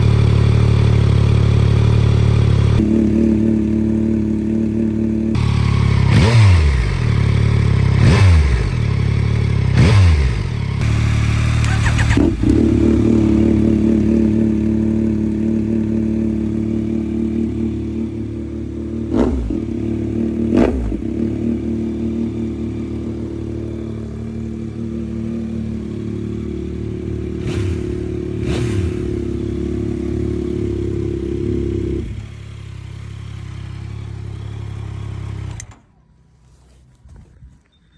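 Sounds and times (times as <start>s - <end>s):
motorcycle engine idling: 0.0s - 36.7s.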